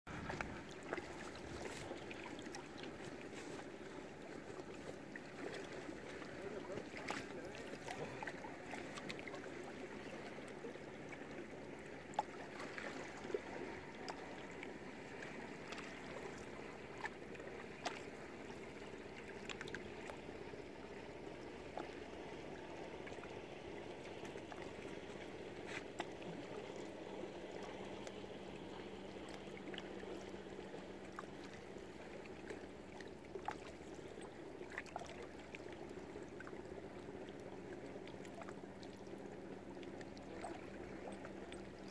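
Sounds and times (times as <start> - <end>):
water lapping and gurgling: 0.1 - 41.9.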